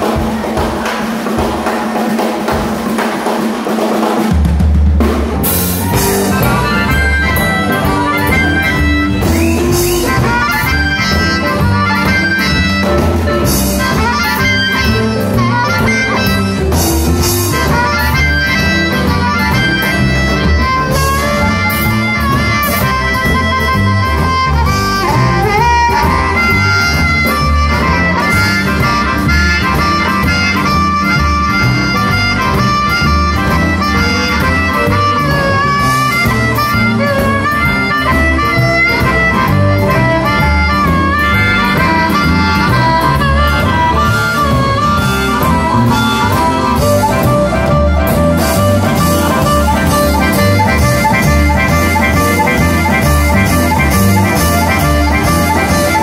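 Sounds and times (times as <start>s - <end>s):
blues band playing: 0.0s - 56.0s
amplified harmonica solo: 5.0s - 56.0s.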